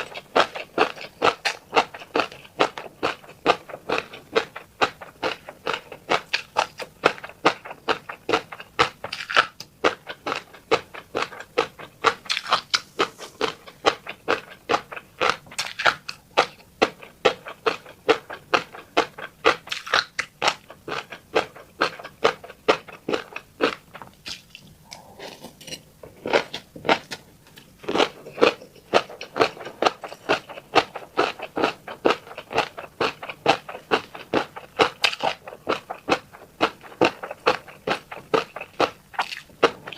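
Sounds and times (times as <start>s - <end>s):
chewing with crisp clicks and pops: 0.0s - 39.9s.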